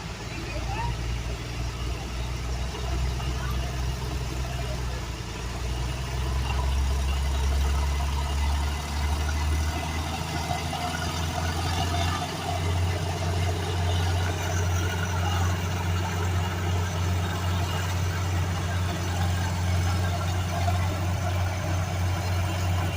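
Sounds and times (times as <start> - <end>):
large engine idling: 0.0 - 22.9.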